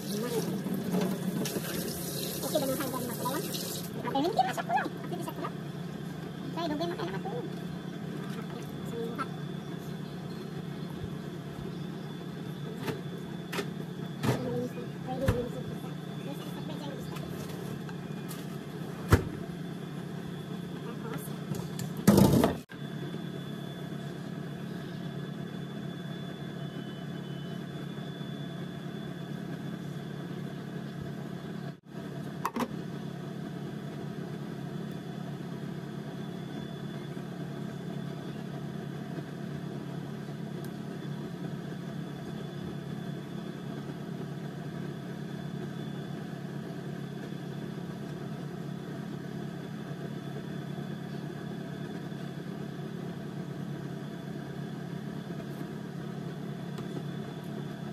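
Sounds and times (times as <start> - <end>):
motor humming: 0.0 - 57.9.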